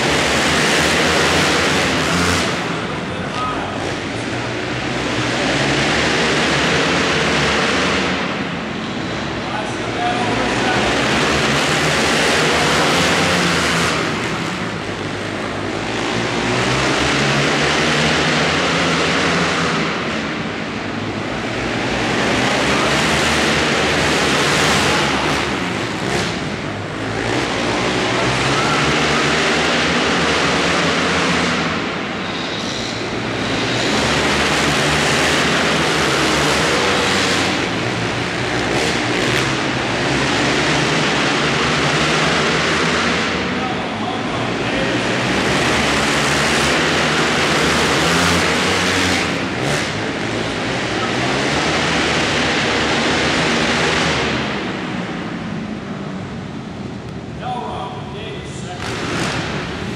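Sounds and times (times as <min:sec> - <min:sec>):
quad engines racing: 0:00.0 - 0:59.9.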